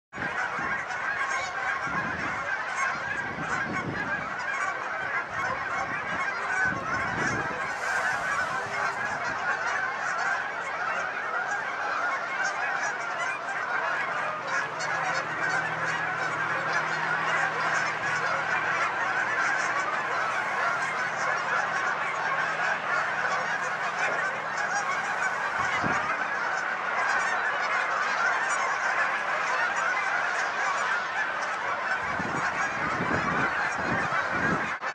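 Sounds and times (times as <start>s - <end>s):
geese honking: 0.2s - 34.9s.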